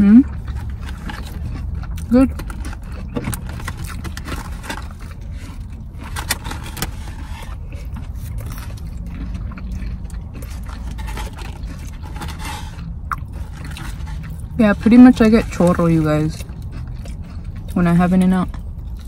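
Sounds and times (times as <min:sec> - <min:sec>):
eating noises: 0:00.0 - 0:19.0
steady low rumble: 0:00.0 - 0:19.0
rustling food wrappers: 0:00.3 - 0:19.0.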